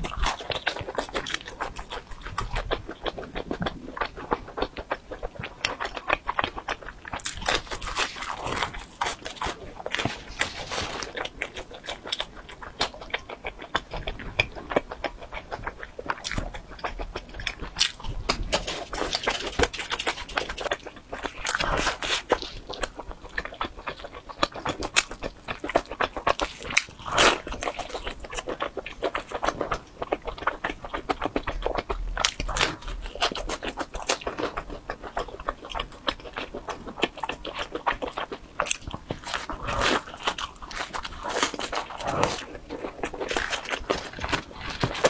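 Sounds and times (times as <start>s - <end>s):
chewing crisp pizza crust: 0.0s - 45.0s
wet mouth sounds: 0.0s - 45.0s.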